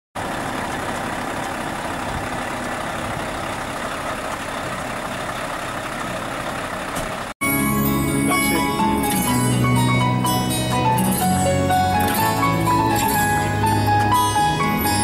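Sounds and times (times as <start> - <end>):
truck engine and road noise: 0.2 - 15.0.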